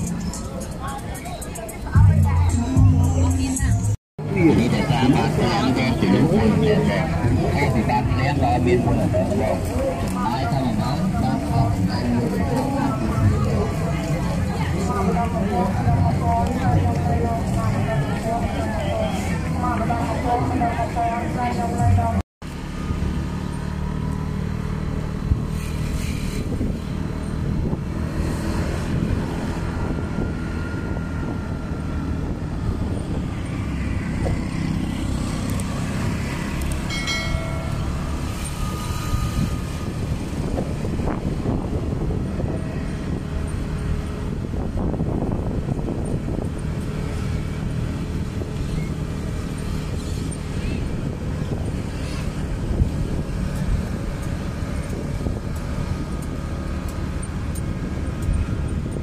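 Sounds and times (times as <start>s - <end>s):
traffic noise: 0.0s - 59.0s
vehicle engine rumbling: 0.0s - 59.0s.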